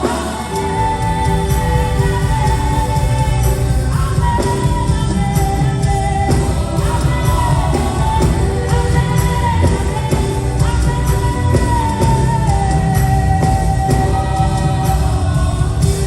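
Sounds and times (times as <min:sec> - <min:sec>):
live worship band: 0:00.0 - 0:16.0.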